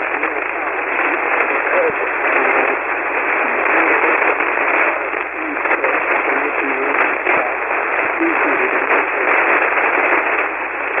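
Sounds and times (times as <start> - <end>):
faint radio voice: 0.0 - 10.4
radio static hiss: 0.0 - 11.0.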